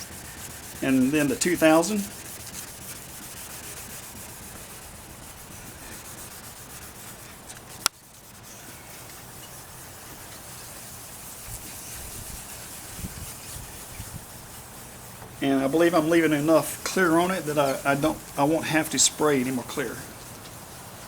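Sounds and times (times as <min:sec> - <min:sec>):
sanding block on plastic: 0:00.0 - 0:21.0.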